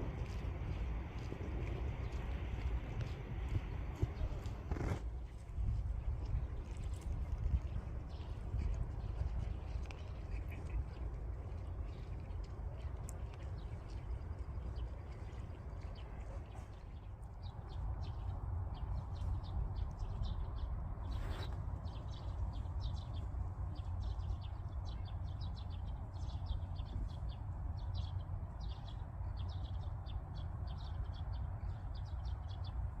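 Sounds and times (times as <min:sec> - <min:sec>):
steady low rumble: 0:00.0 - 0:33.0
small birds chirping: 0:06.2 - 0:33.0.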